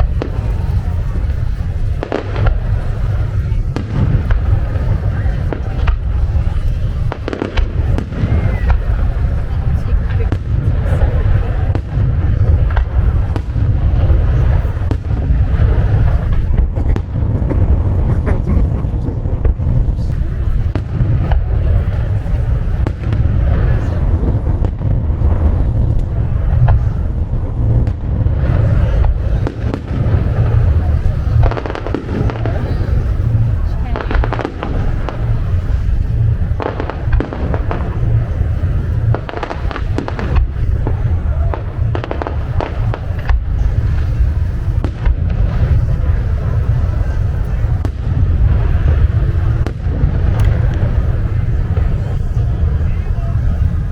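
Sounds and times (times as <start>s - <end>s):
fireworks booming: 0.0s - 53.9s
fireworks cracks and pops: 0.0s - 53.9s.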